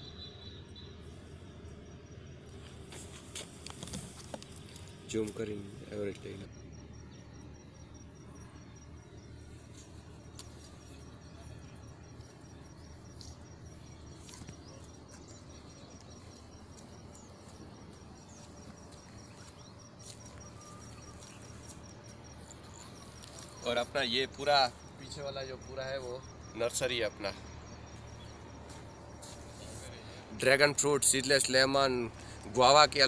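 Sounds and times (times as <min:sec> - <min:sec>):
insect chirping: 0:00.0 - 0:33.0.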